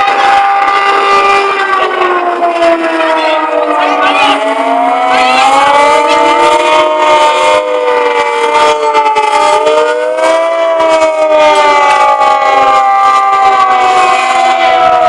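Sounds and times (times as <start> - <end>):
hand-cranked siren wailing: 0.0 - 15.0.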